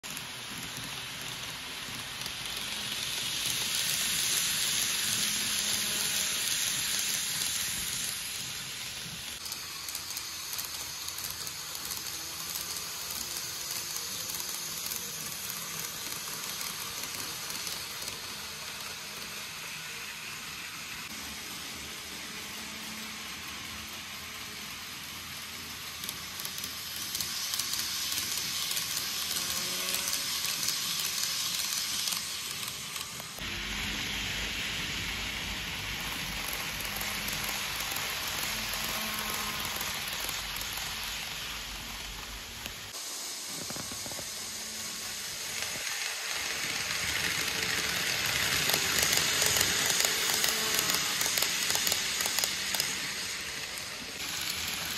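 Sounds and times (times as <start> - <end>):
model train wheels rattling on rail: 0.0 - 54.9.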